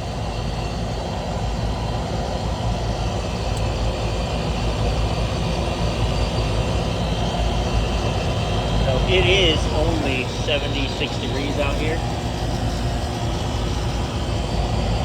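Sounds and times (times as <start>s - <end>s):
condenser fans rushing: 0.0s - 15.0s
compressor hum: 2.9s - 15.0s.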